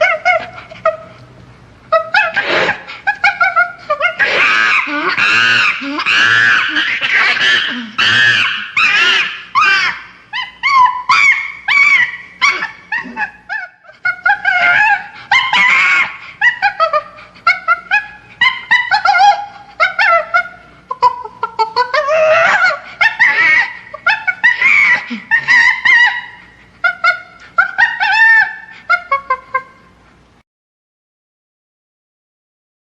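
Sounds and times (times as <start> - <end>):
chimpanzee screaming: 0.0 - 1.0, 1.9 - 29.8.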